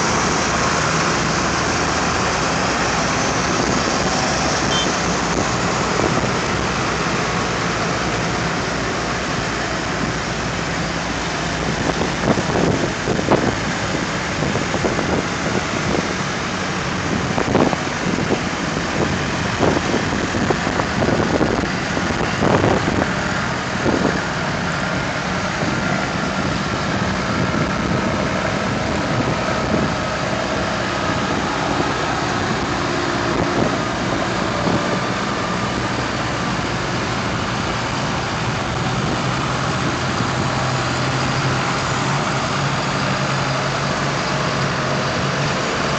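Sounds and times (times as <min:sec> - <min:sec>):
tractor engines running: 0:00.0 - 0:45.9.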